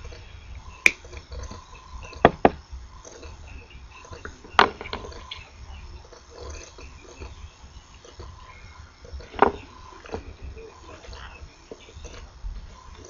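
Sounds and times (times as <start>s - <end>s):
faint ticks: 0.0s - 13.0s.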